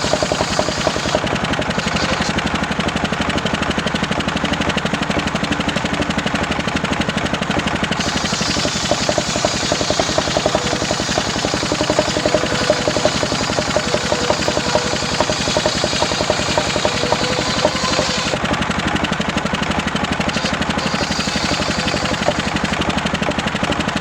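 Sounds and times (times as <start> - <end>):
engine-driven circular saw running: 0.0 - 24.0.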